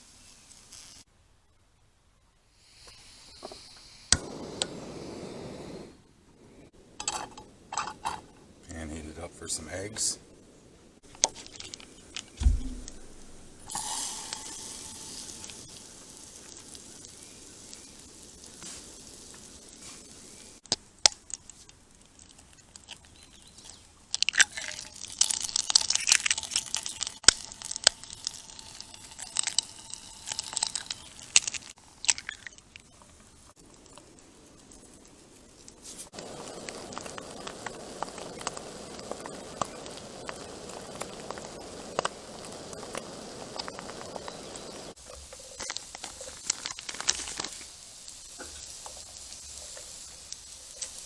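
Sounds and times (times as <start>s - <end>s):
eggs sizzling in a skillet: 0.0s - 1.1s, 2.5s - 51.0s.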